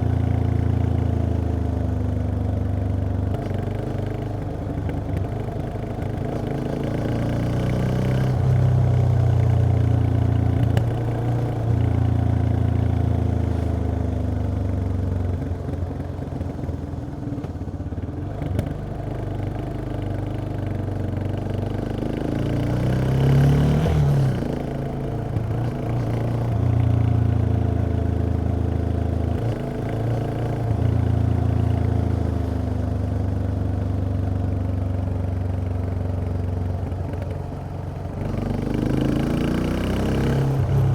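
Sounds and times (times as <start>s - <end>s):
motorcycle engine revving: 3.0s - 20.2s, 21.1s - 34.6s, 35.2s - 40.9s.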